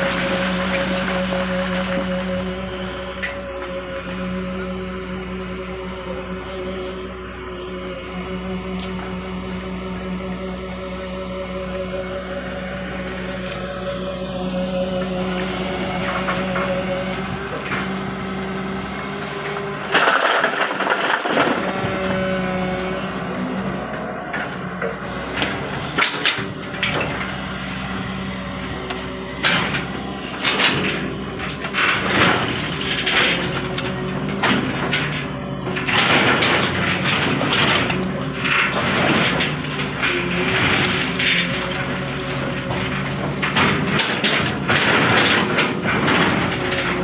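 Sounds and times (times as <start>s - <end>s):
excavator engine running: 0.0s - 47.0s.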